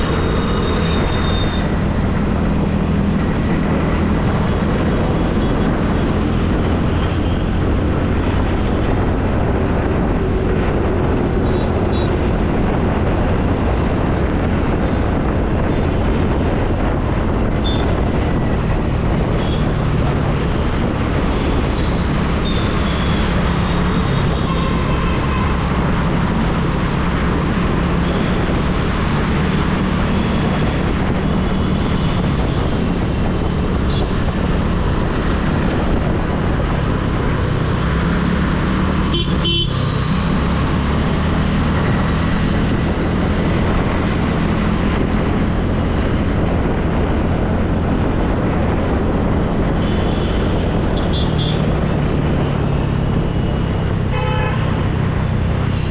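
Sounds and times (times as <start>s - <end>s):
road noise: 0.0s - 55.9s
wind rush on microphone: 0.0s - 55.9s.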